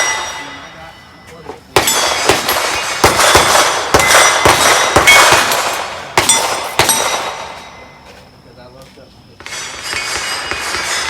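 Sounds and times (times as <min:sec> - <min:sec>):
steel plate ringing: 0:00.0 - 0:08.1, 0:09.4 - 0:11.0.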